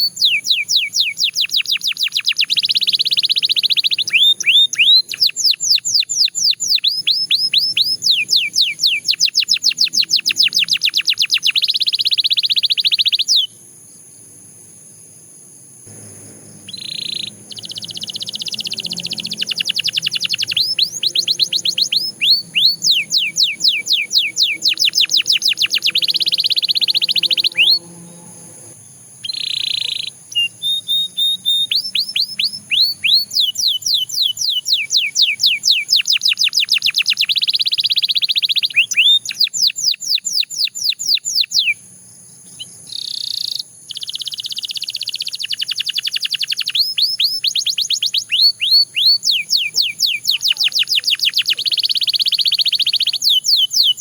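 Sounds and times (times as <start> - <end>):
canary singing: 0.0 - 13.6, 15.9 - 54.0.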